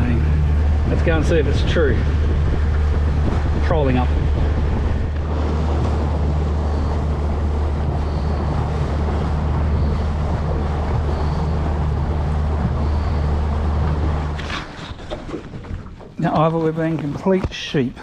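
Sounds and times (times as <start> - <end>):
outboard motor droning: 0.0 - 17.8
wind buffeting microphone: 0.0 - 18.0.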